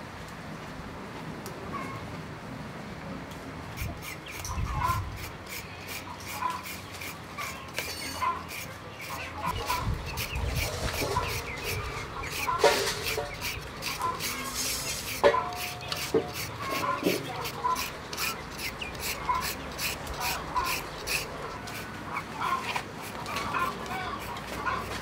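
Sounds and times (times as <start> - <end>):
peeler scraping carrot: 3.8 - 25.0.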